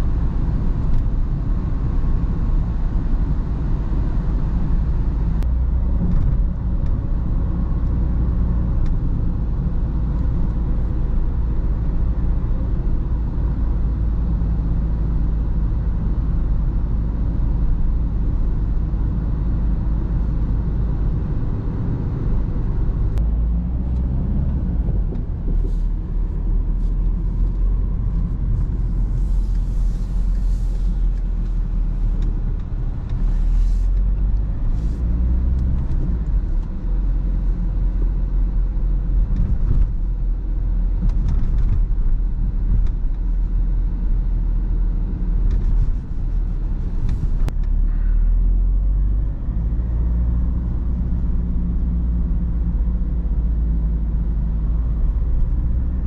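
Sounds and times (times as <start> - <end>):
diesel engine drone: 0.0 - 56.0
tyre and road rumble: 0.0 - 56.0.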